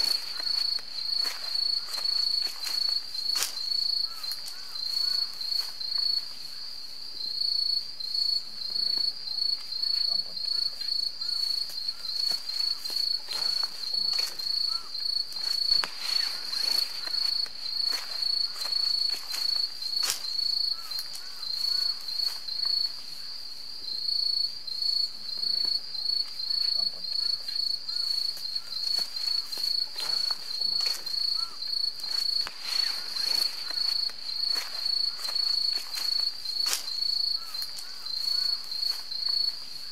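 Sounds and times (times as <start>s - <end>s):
rustles: 0.0s - 6.8s, 8.2s - 23.6s, 25.0s - 39.9s
insects chirping trill: 0.0s - 39.9s.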